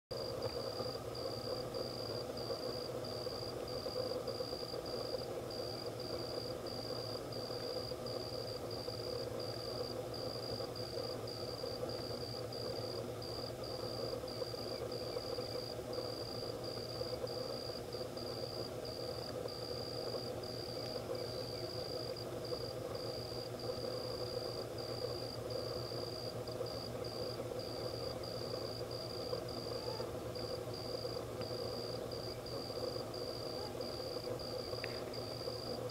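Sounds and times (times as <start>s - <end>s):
insects trilling: 0.2s - 35.9s.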